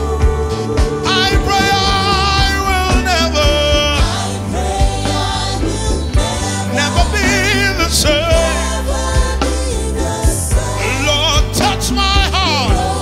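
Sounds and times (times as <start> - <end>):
band with drums and bass: 0.0 - 13.0.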